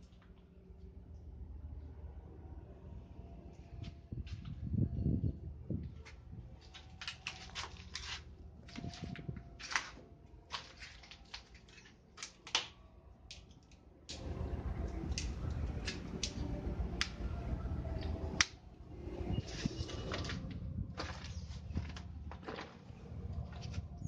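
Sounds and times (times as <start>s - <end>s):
steady low rumble: 0.0s - 10.7s, 13.0s - 24.0s.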